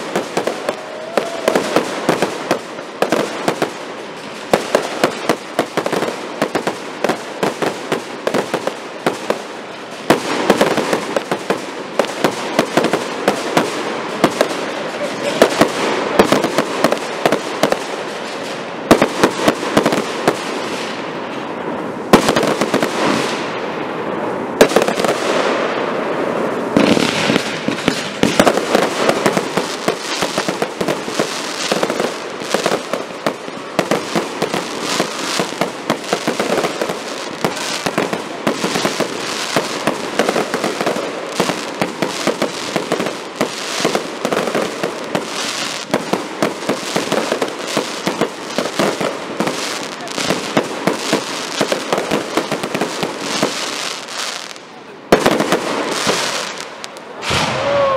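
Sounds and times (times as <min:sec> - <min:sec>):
fireworks bursting: 0:00.0 - 0:57.9.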